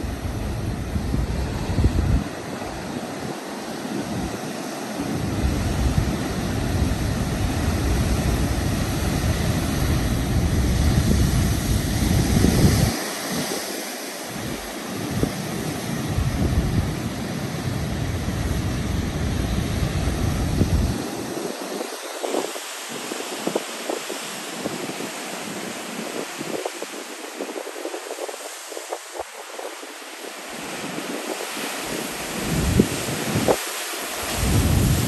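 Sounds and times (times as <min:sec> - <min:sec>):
sea surf crashing on shore: 0:00.0 - 0:35.0
wind buffeting microphone: 0:00.0 - 0:35.0.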